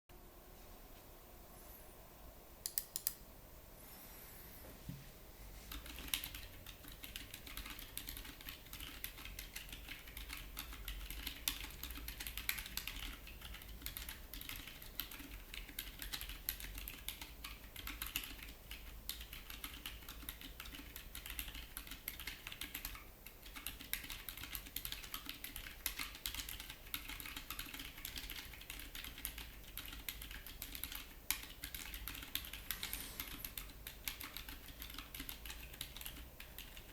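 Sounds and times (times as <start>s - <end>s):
fast typing on mechanical keyboard: 5.7s - 36.9s.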